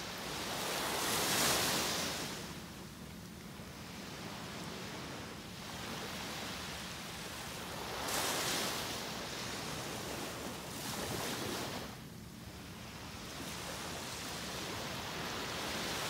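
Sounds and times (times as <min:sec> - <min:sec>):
waves breaking on a sandy beach: 0:00.0 - 0:16.0.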